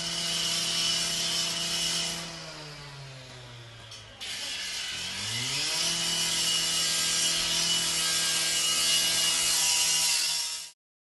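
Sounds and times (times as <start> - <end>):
angle grinder cutting metal: 0.0 - 10.8.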